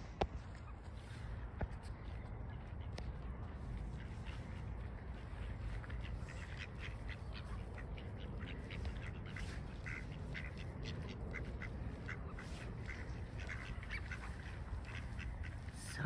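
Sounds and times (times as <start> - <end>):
ducks quacking: 2.0 - 16.0.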